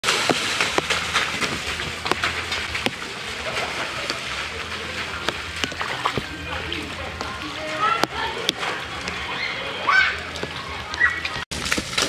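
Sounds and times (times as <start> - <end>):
heavy rain falling: 0.0 - 12.0
sharp drips and splashes: 0.0 - 12.0.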